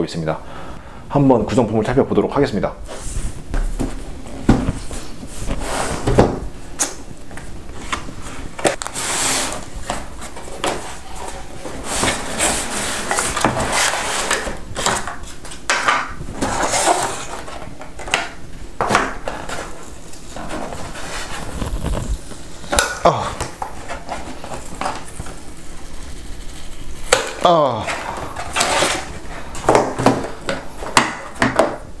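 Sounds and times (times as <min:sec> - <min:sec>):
cardboard packaging rustling: 0:02.8 - 0:32.0.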